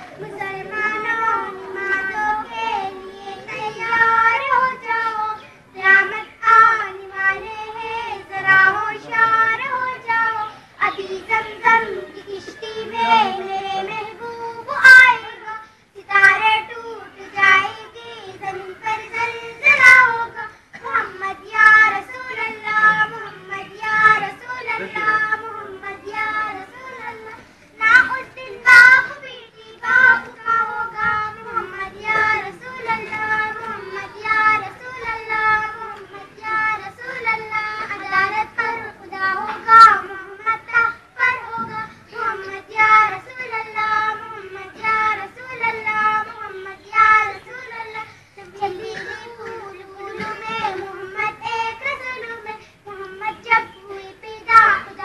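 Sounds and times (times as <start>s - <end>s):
girl singing: 0.0s - 55.0s.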